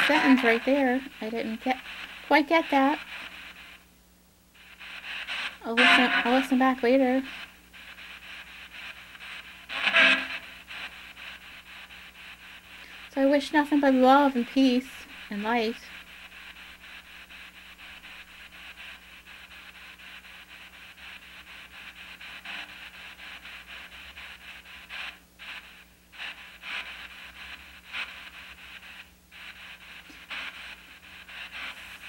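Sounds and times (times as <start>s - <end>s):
pulsing radio static hiss: 0.0s - 32.0s.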